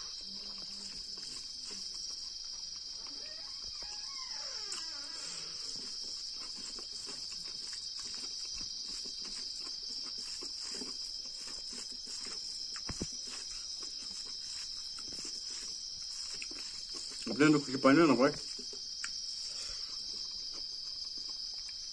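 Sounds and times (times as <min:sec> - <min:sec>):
crickets chirring: 0:00.0 - 0:21.9
eating and chewing: 0:00.0 - 0:21.9.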